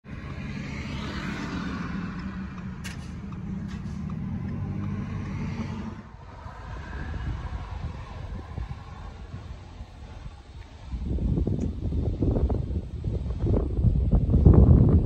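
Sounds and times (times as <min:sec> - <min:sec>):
car engine hum: 0:00.0 - 0:15.0
road and traffic noise: 0:00.0 - 0:15.0.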